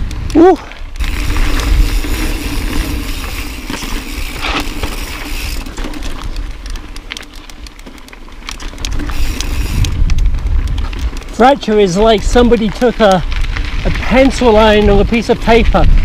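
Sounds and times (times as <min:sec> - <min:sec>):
bike rattling clicks: 0:00.0 - 0:16.0
bike tyres crunching over ground: 0:00.0 - 0:16.0
wind rumbling on microphone: 0:00.0 - 0:16.0.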